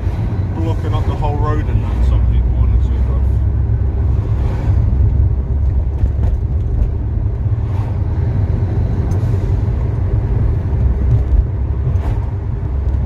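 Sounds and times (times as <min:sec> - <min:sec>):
deep engine rumble in cabin: 0:00.0 - 0:13.0.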